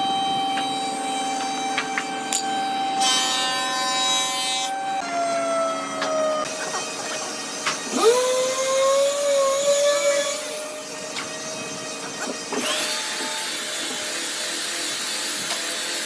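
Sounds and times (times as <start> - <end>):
electric power tool running: 0.0 - 16.0.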